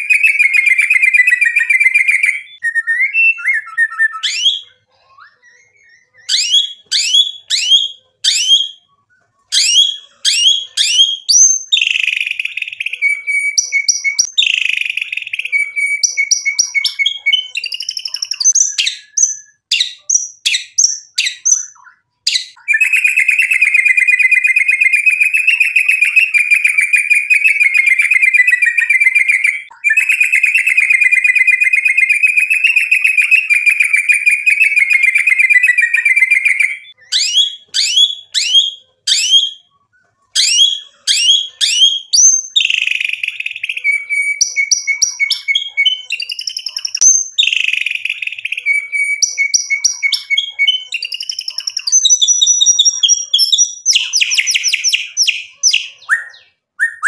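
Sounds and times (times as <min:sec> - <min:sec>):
bird whistling and trilling: 0:00.0 - 0:39.7, 0:40.4 - 0:57.0.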